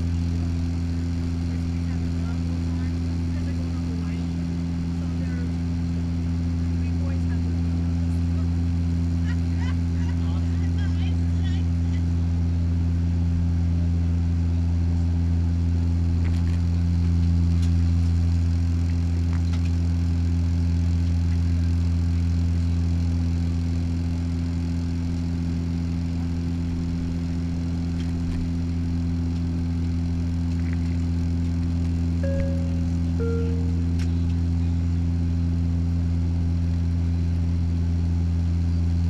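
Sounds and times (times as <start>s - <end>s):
propeller hum inside airliner cabin: 0.0s - 39.0s.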